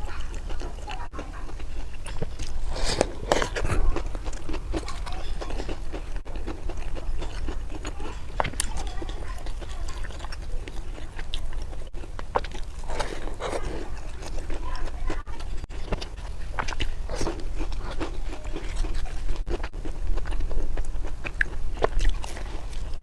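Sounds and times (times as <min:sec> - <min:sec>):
person biting and chewing food: 0:00.2 - 0:23.0.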